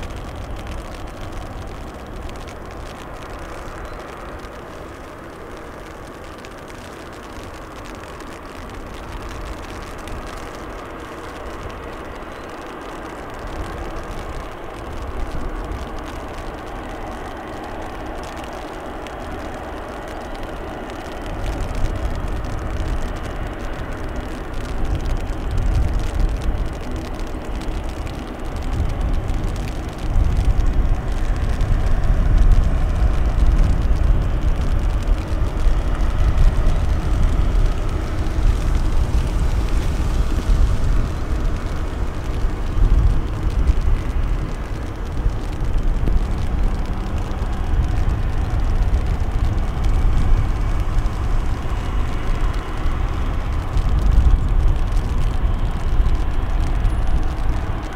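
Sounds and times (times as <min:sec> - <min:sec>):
deep rumble: 0:00.0 - 0:57.9.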